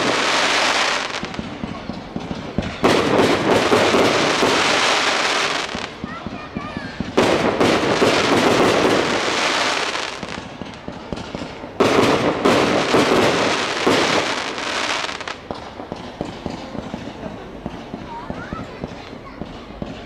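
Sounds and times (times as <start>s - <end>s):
fireworks bursting: 0.0s - 20.0s
fireworks crackling: 0.0s - 20.0s.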